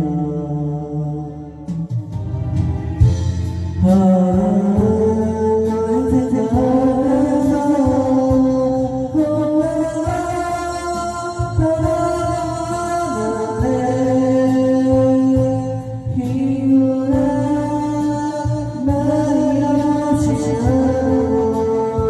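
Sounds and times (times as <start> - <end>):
slow ballad backing track: 0.0 - 22.0.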